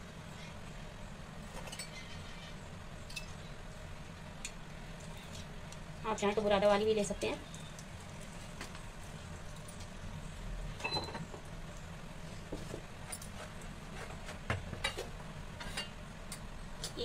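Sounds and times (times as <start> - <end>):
gas burner humming: 0.0 - 17.0.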